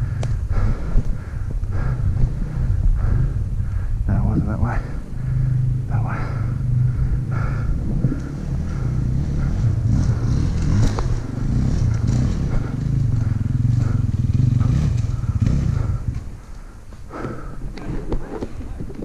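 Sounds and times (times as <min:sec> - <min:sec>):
dirt bike engine running: 0:00.0 - 0:18.8.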